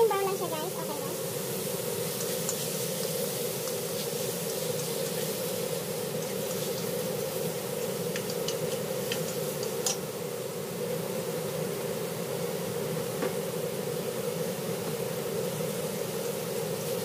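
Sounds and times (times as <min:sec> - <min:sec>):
pork sizzling in oil: 0:00.0 - 0:17.0.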